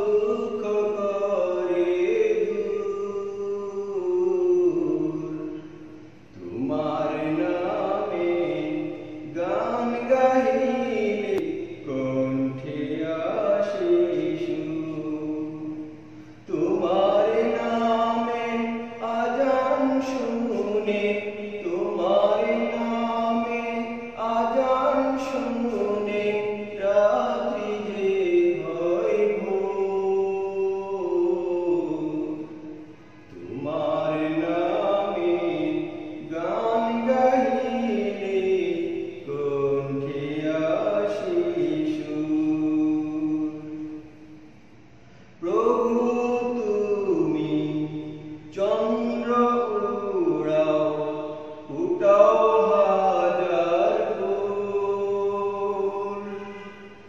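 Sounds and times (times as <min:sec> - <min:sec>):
person singing devotional song: 0:00.0 - 0:44.3, 0:45.4 - 0:57.0.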